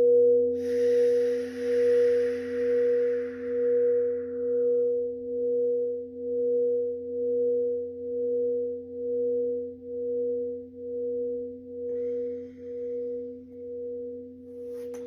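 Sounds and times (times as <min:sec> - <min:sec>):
singing bowl humming: 0:00.0 - 0:15.0.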